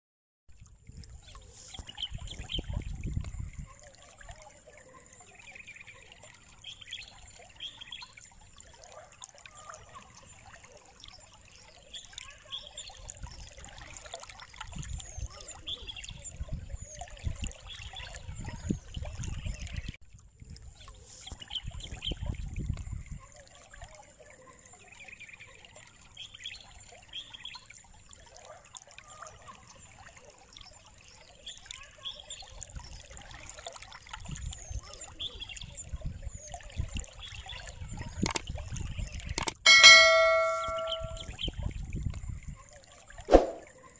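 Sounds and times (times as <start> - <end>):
faint water trickling: 0.5 - 43.9.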